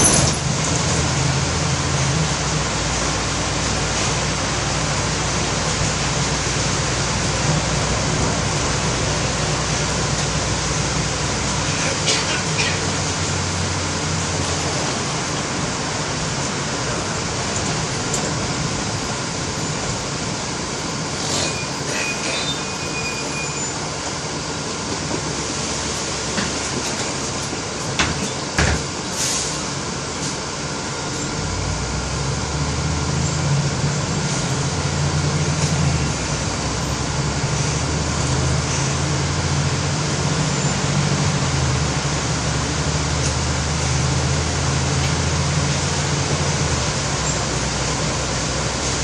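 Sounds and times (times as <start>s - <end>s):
bus engine low hum: 0.0s - 49.0s
heavy rain on moving bus: 0.0s - 49.0s.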